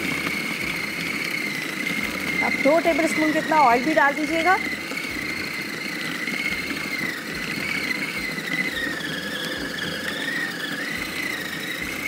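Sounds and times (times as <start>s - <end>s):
food processor motor whine: 0.0s - 12.0s.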